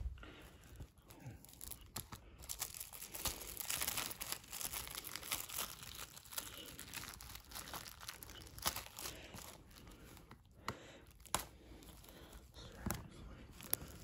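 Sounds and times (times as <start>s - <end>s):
shrink-wrap crinkling: 0.3s - 14.0s.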